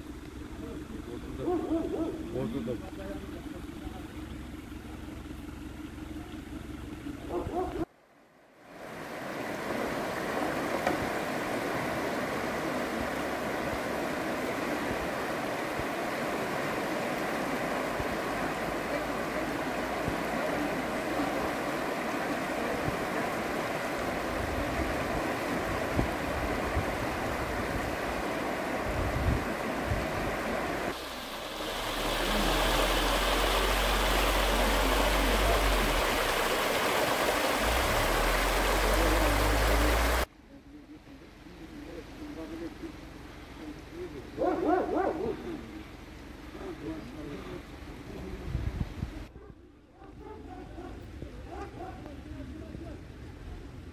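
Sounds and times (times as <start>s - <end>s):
floodwater rushing across road: 0.0s - 40.3s, 41.0s - 48.4s.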